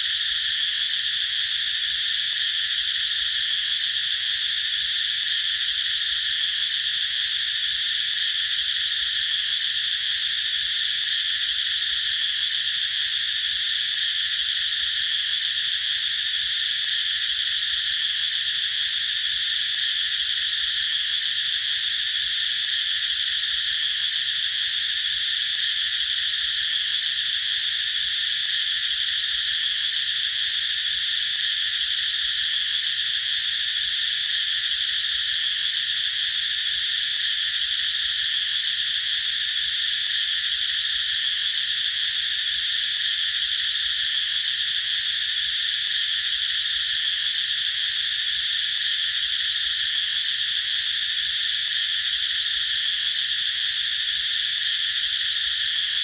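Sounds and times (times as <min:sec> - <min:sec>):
cicadas singing: 0:00.0 - 0:56.0.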